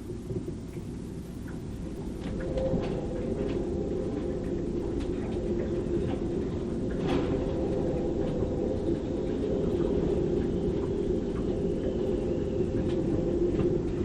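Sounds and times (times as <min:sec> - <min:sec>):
wind roaring in rigging: 0:00.0 - 0:14.0.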